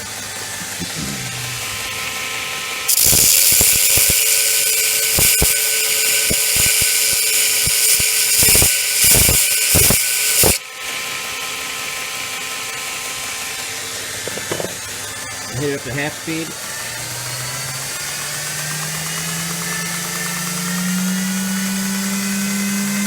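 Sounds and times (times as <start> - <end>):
belt grinder motor hum: 0.0 - 23.0
hissing grind of metal on belt: 0.0 - 23.0.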